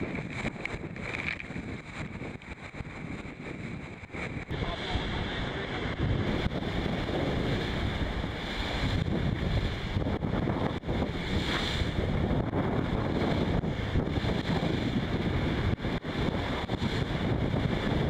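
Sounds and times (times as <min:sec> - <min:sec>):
water rushing along a hull: 0:00.0 - 0:18.0
wind buffeting microphone: 0:00.0 - 0:18.0.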